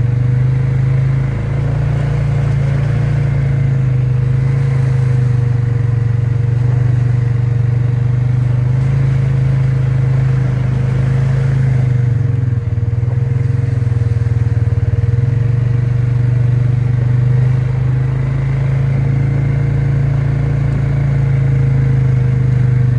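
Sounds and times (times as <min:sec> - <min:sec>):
atv engine running: 0:00.0 - 0:22.9.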